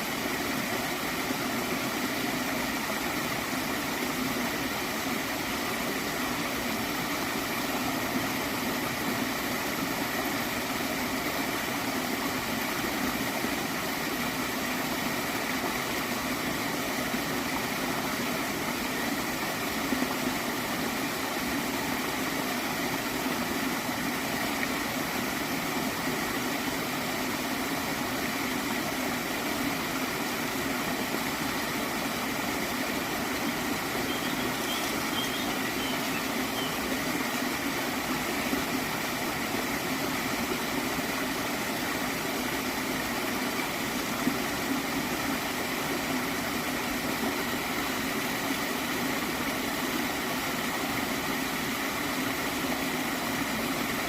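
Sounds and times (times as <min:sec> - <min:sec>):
stream gurgling: 0:00.0 - 0:54.0.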